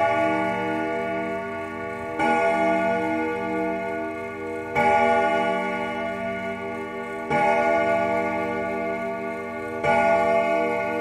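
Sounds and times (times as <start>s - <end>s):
church bell tolling: 0.0s - 11.0s.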